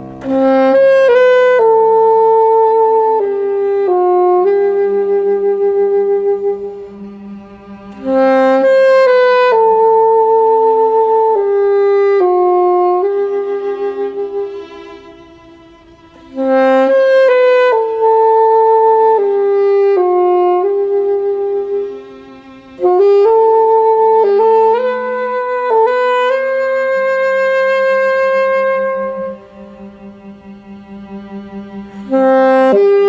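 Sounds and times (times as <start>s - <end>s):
saxophone melody: 0.0s - 33.0s
sustained low cello notes: 0.0s - 33.0s.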